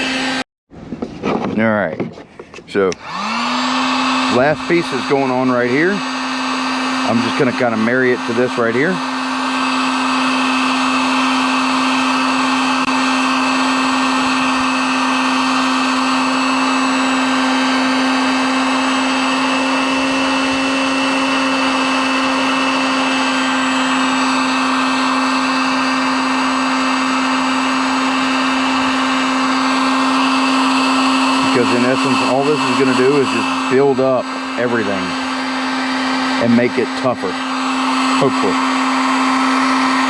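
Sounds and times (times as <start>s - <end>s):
heat gun fan humming: 0.0s - 0.4s, 2.1s - 40.0s.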